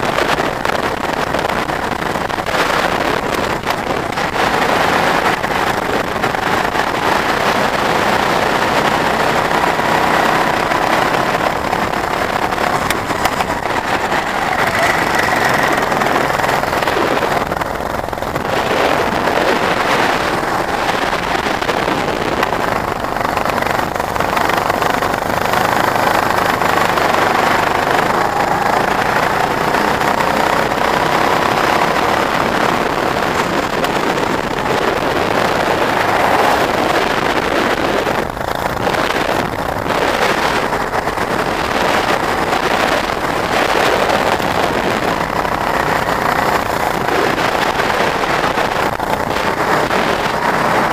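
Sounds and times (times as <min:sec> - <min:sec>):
go-kart engine running hard: 0:00.0 - 0:50.9.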